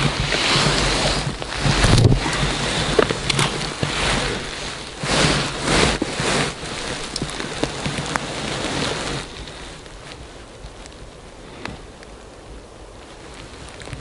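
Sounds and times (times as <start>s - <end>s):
clothing rustling near microphone: 0.0s - 11.8s
low wind rumble: 0.0s - 14.0s.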